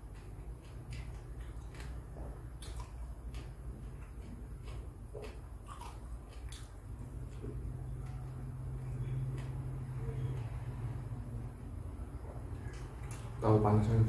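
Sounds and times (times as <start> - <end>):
person chewing food: 0.0 - 13.4.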